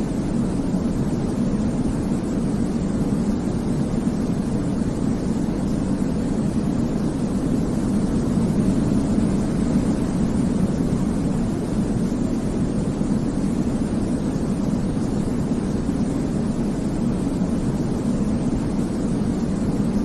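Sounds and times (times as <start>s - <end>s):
low-pitched white noise: 0.0s - 20.0s.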